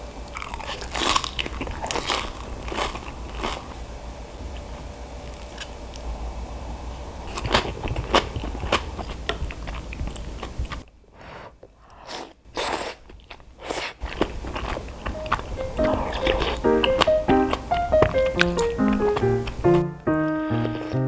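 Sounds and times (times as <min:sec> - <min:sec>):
crunchy food chewing: 0:00.1 - 0:06.2, 0:07.2 - 0:21.0.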